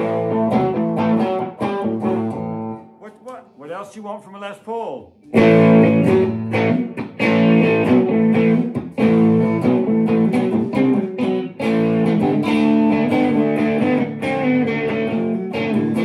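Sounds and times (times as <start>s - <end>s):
electric guitar chords strummed: 0.0s - 3.4s, 5.3s - 16.0s.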